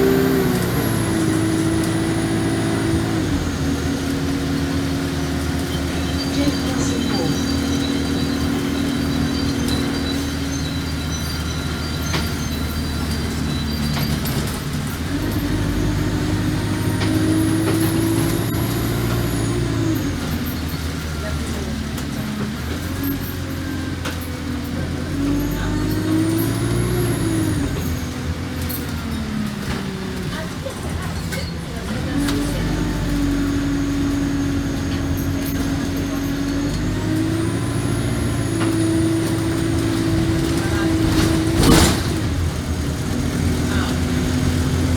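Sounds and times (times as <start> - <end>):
bus engine running: 0.0 - 44.9.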